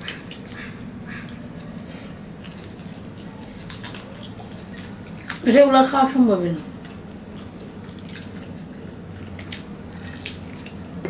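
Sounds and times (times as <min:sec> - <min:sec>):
wet chewing and lip smacks: 0:00.0 - 0:05.5, 0:06.8 - 0:11.0.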